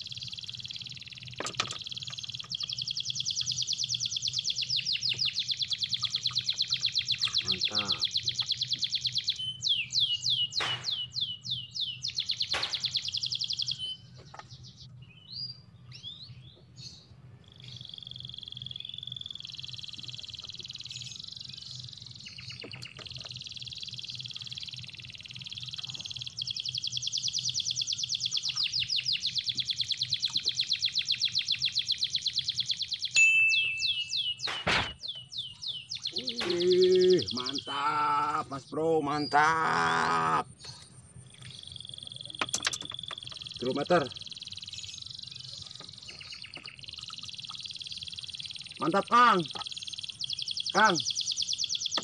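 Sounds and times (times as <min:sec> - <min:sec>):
birds calling: 0:00.0 - 0:52.0
high bird trill: 0:00.0 - 0:52.0.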